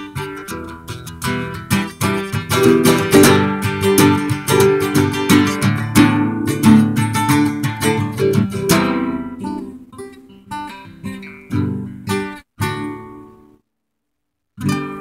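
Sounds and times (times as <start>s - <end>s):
acoustic guitar strumming: 0.0s - 13.3s.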